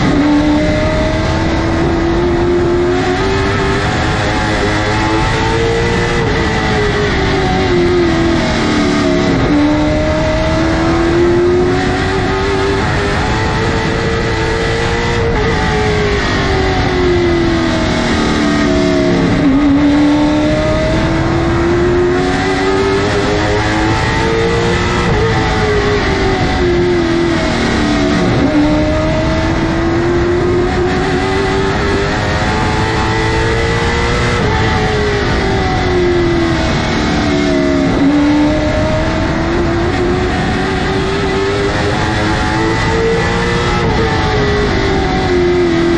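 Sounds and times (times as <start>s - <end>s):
race car engine running hard: 0.0s - 45.9s.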